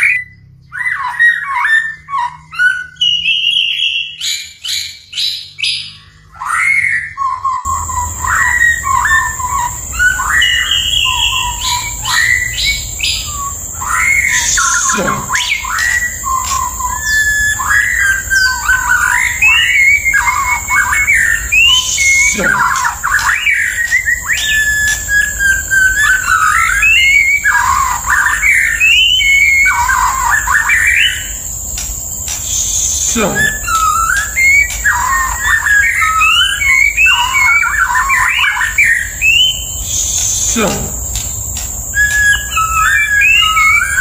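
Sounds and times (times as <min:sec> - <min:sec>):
bird singing whistled phrases: 0:00.0 - 0:31.5, 0:32.3 - 0:44.0.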